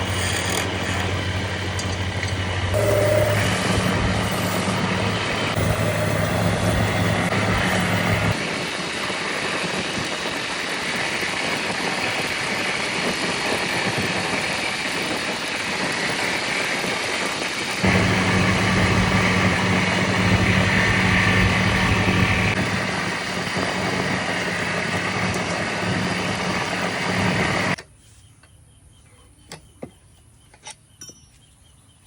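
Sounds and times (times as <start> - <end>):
machine motor humming: 0.0 - 27.8.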